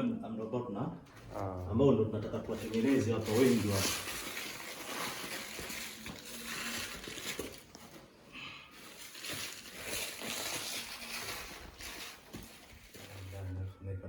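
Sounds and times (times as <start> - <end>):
rustling and crunching material: 1.1 - 13.8.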